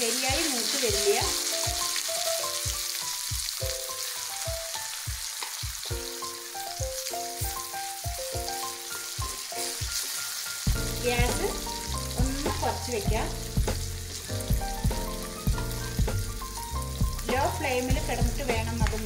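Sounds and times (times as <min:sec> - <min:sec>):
vegetables sizzling in hot oil: 0:00.0 - 0:19.0
background music with steady beat: 0:01.2 - 0:19.0.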